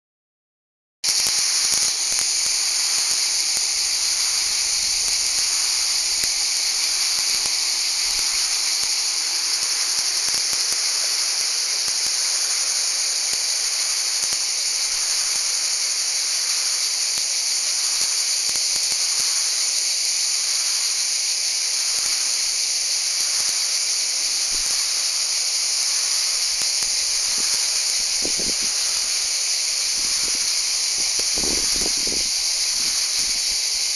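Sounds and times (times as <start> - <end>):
cicadas buzzing: 1.1 - 33.9.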